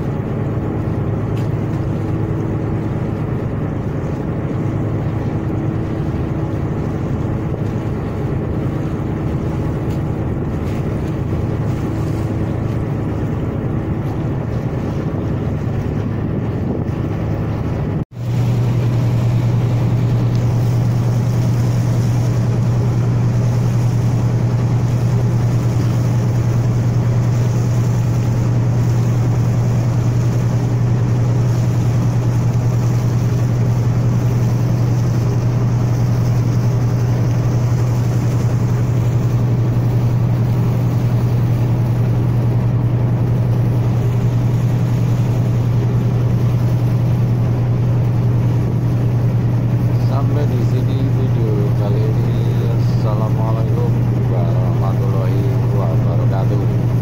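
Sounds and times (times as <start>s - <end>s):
ship engine droning: 0.0s - 57.0s
wind and water hiss: 0.0s - 57.0s.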